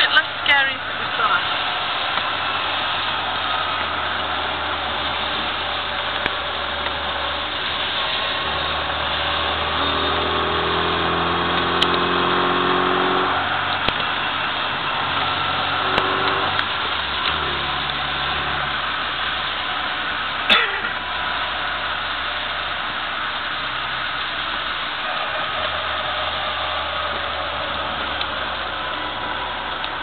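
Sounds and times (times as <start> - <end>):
car engine running at speed: 0.0 - 30.0
tyre and spray noise: 0.0 - 30.0.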